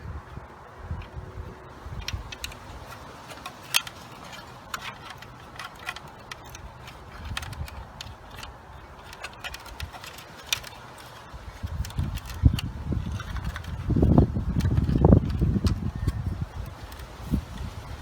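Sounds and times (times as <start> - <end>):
vacuum parts clicking and tapping: 1.0 - 18.0.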